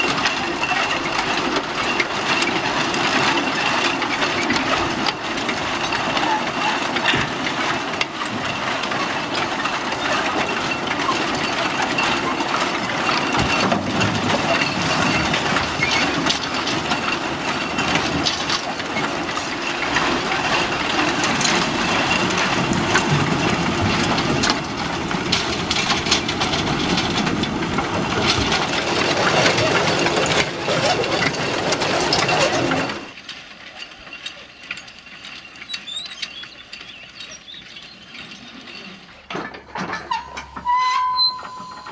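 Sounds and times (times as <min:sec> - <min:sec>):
excavator bucket chain clattering: 0:00.0 - 0:41.9.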